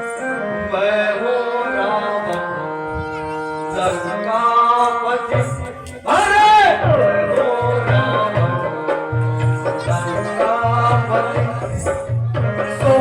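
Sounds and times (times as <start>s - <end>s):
person singing: 0.0s - 13.0s
sustained instrumental notes: 0.0s - 13.0s.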